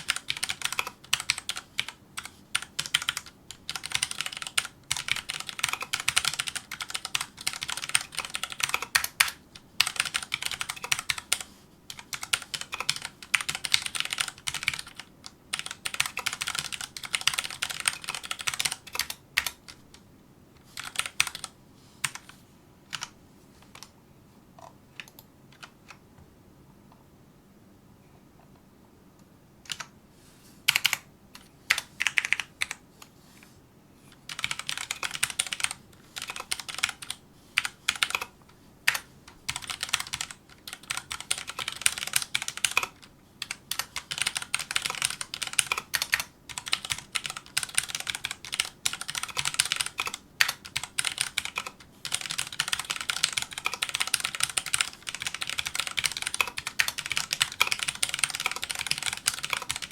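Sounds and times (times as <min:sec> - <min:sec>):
mechanical keyboard typing: 0:00.0 - 0:20.0, 0:20.8 - 0:23.9, 0:29.7 - 0:29.9, 0:30.7 - 0:32.8, 0:34.3 - 0:59.9.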